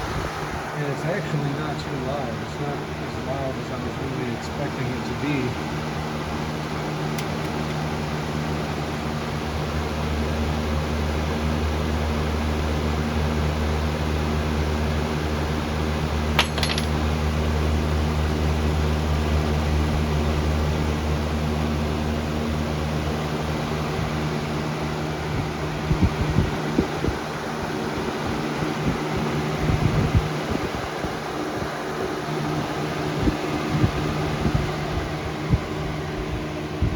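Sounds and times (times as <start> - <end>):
box fan running: 0.0 - 36.9.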